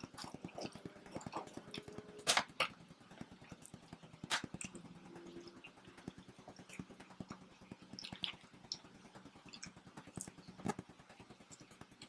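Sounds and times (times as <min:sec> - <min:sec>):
chewing and mouth sounds: 0:00.0 - 0:04.8, 0:05.6 - 0:12.0.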